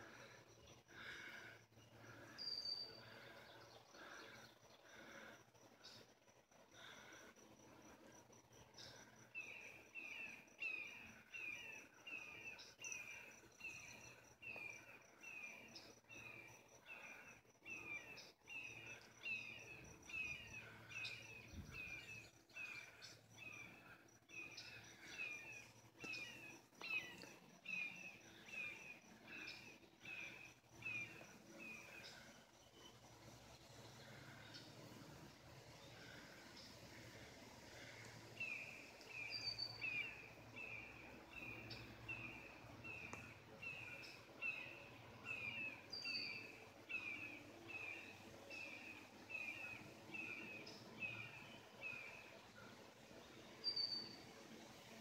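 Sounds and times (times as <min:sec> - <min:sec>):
faint insect buzz: 0:00.0 - 0:55.0.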